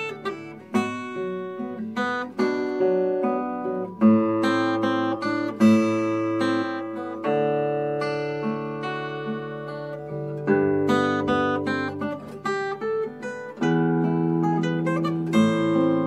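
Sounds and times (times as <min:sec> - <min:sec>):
fingerstyle acoustic guitar: 0:00.0 - 0:16.0.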